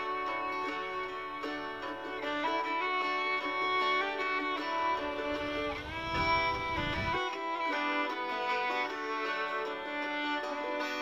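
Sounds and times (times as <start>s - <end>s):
instrumental string music: 0.0s - 11.0s.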